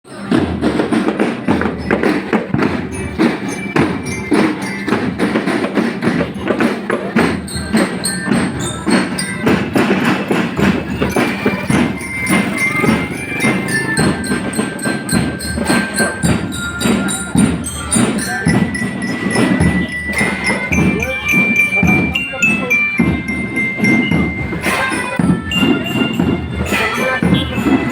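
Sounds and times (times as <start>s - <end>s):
held high notes: 0.1s - 27.9s
music with percussion beat: 0.1s - 27.9s.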